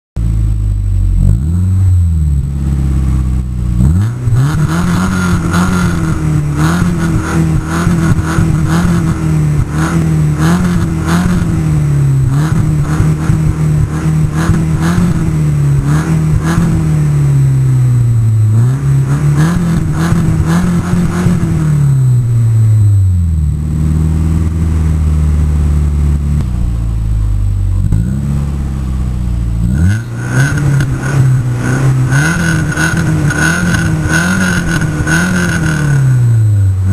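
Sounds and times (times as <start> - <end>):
car engine revving: 0.2 - 36.9.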